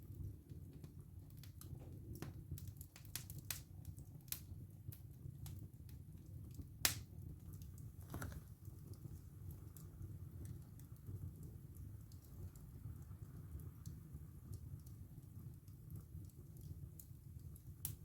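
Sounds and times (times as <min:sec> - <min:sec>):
burning wood crackling and popping: 0:00.0 - 0:18.0
fire flames rumbling: 0:00.0 - 0:18.0.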